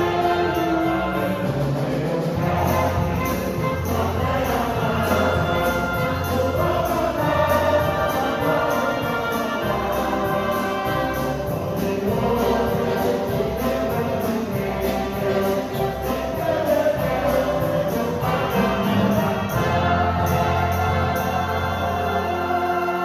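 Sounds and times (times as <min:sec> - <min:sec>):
gospel choir singing: 0:00.0 - 0:23.0
orchestra playing: 0:00.0 - 0:23.0.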